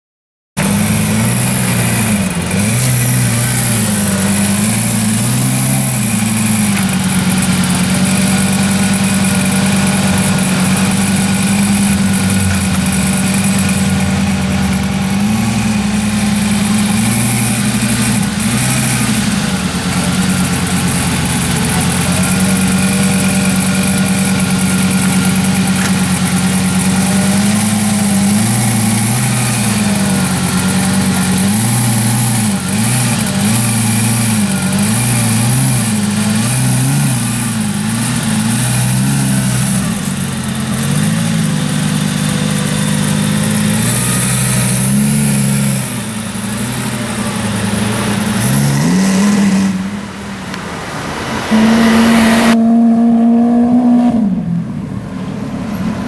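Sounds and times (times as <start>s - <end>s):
car engine idling loudly: 0.6s - 52.8s, 54.1s - 56.0s.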